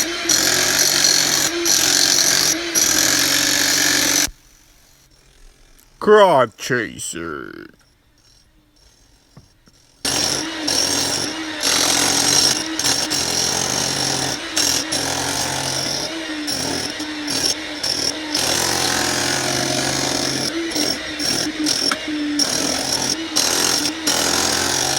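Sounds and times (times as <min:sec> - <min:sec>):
rotary hammer chipping concrete: 0:00.0 - 0:04.3, 0:07.8 - 0:24.9.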